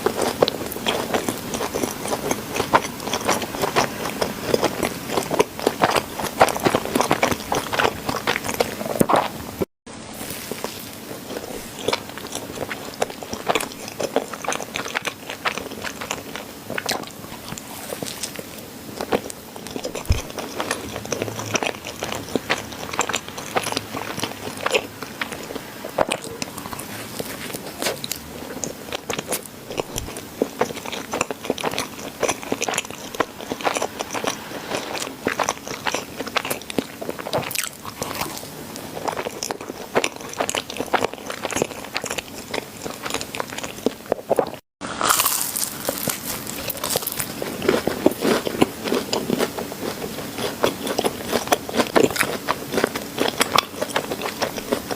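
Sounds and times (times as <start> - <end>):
biting and chewing: 0.0 - 9.7, 10.5 - 54.9.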